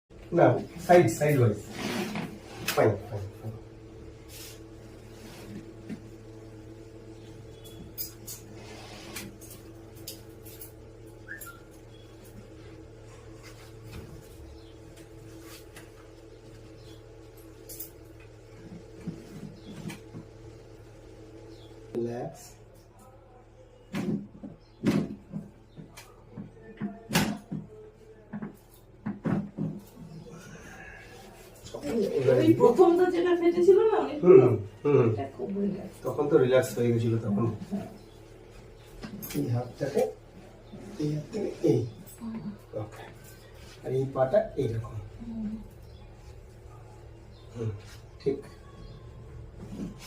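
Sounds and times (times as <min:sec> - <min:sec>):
steady low hum: 0:00.1 - 0:50.0.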